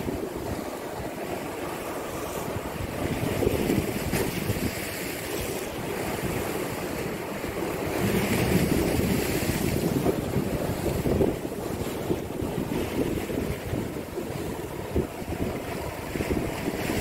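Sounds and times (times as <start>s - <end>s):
waves against seawall: 0.0s - 17.0s
wind buffeting microphone: 0.0s - 17.0s.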